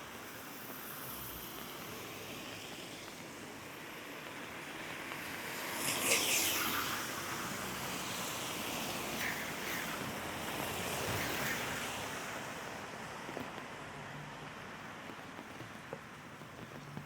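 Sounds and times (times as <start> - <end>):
rain hiss: 0.0 - 17.0
tyres on a wet street: 0.0 - 17.0.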